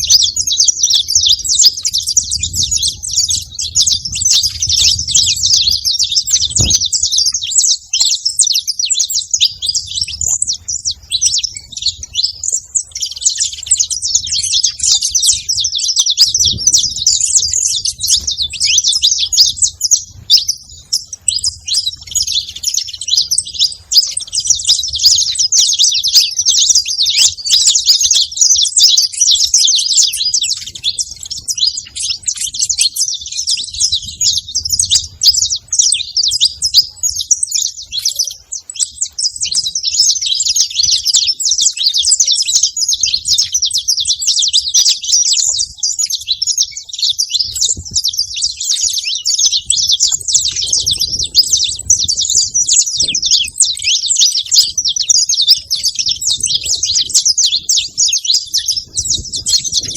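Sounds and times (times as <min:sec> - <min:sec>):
finches chirping and calling: 0:00.0 - 0:59.9.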